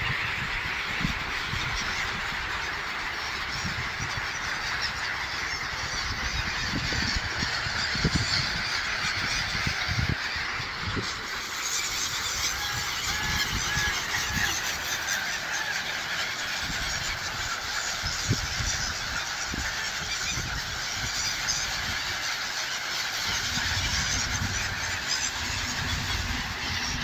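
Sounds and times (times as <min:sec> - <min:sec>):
flock of gulls calling: 0:00.0 - 0:27.0.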